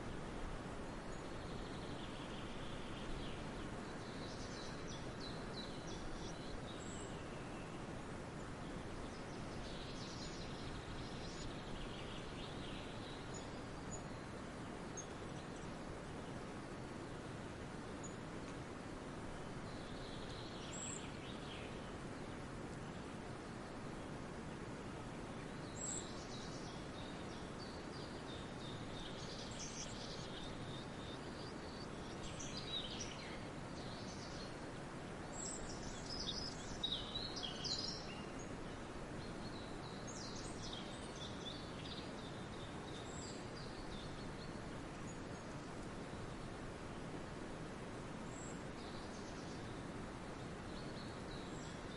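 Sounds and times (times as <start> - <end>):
outdoor background hiss: 0.0 - 51.9
songbirds chirping: 0.0 - 51.9.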